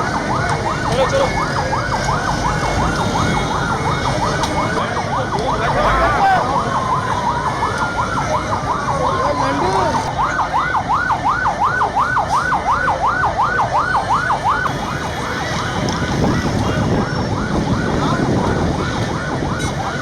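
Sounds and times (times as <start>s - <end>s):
siren warbling: 0.0s - 20.0s.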